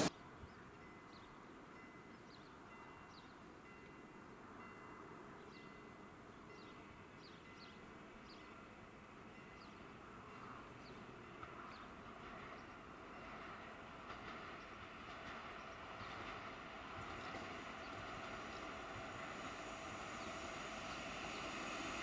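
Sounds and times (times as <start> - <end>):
faint outdoor ambience: 0.0 - 22.0.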